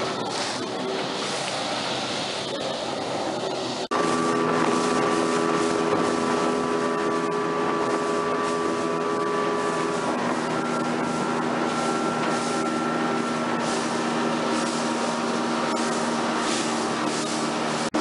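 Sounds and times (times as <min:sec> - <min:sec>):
motorboat engine at speed: 0:00.0 - 0:18.0
water rushing: 0:00.0 - 0:18.0.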